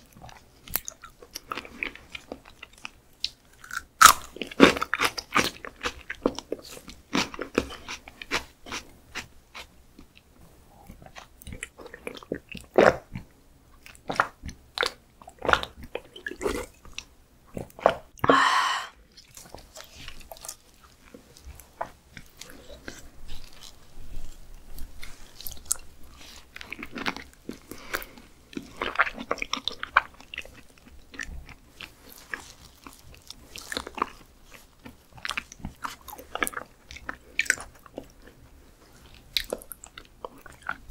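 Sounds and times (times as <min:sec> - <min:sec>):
chewing and wet mouth sounds: 0:00.0 - 0:18.3, 0:19.0 - 0:40.9.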